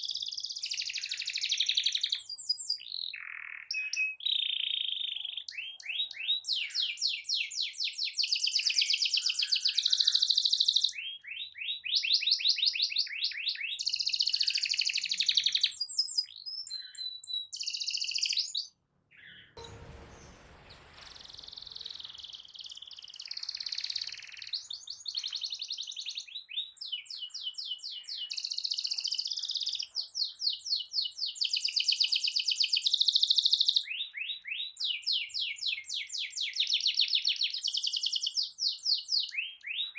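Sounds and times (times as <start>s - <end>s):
canary singing trills: 0.0s - 19.8s, 20.8s - 39.9s.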